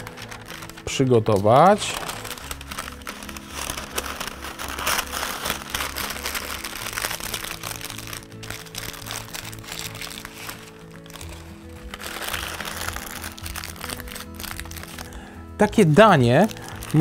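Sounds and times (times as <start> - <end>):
paper crinkling and rustling: 0.0 - 17.0.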